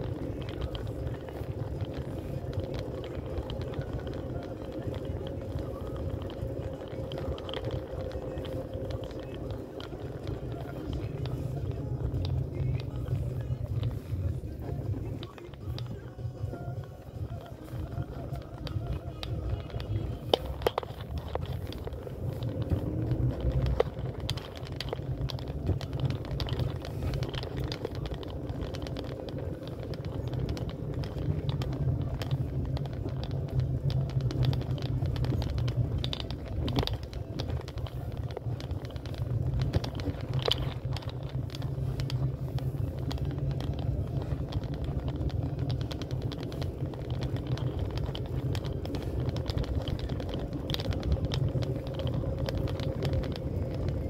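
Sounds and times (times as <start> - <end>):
light clicks and taps: 0.0 - 54.0.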